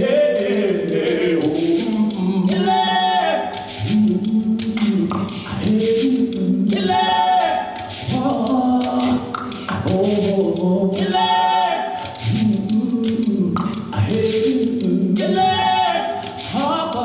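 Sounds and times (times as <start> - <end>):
sharp percussive clicks: 0.0 - 17.0
voices singing together: 0.0 - 17.0.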